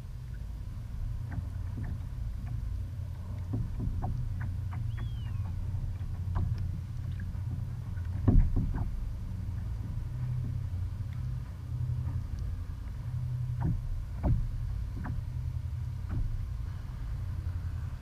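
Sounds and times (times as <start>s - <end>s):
low steady rumble: 0.0s - 18.0s
water slapping against kayak hull: 0.2s - 17.3s.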